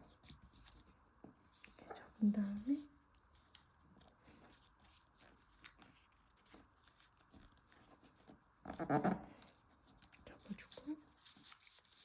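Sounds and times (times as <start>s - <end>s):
paper rustling while folded: 0.0s - 12.0s.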